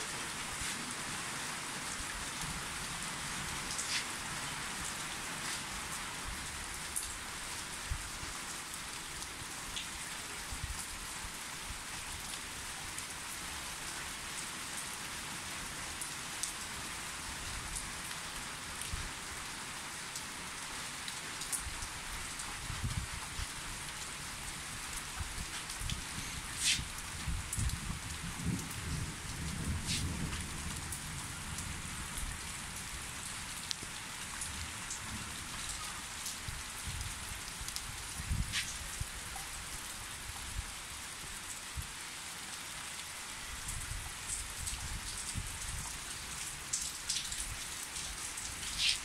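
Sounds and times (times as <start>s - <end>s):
steady rain hissing: 0.0s - 49.0s.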